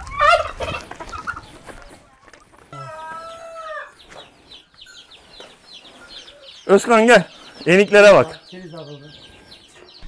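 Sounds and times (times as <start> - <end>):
poultry calling: 0.0 - 1.9, 2.5 - 10.0.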